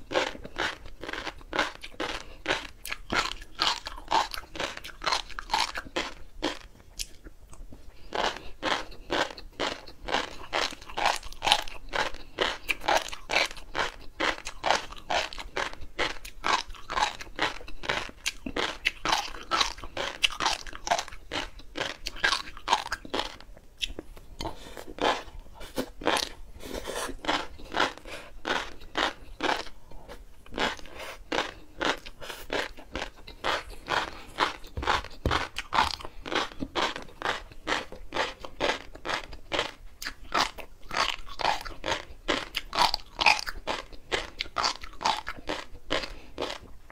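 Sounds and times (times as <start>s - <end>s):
chewing crackling fish roe: 0.0s - 46.9s.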